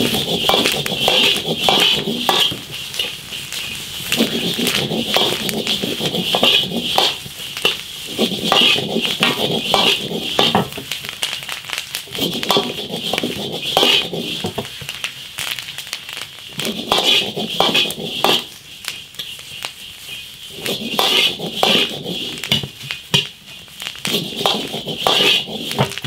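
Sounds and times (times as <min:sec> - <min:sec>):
metal spatula scraping wok: 0:00.0 - 0:10.8, 0:12.1 - 0:14.7, 0:16.5 - 0:22.6, 0:24.1 - 0:26.0
peppers frying in wok: 0:00.0 - 0:26.0.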